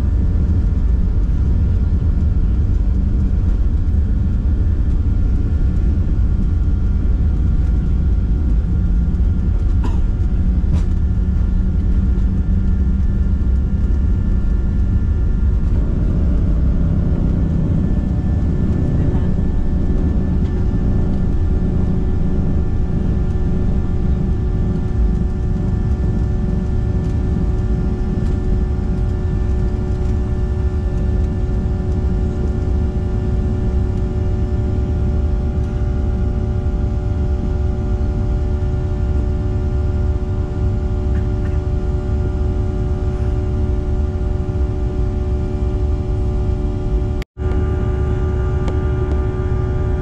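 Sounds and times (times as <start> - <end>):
jet cabin engine rumble: 0.0 - 50.0.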